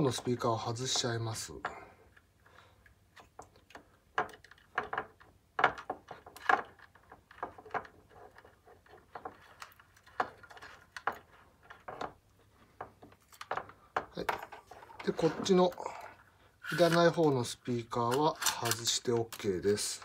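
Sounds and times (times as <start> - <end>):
cable rustling: 0.0 - 20.0.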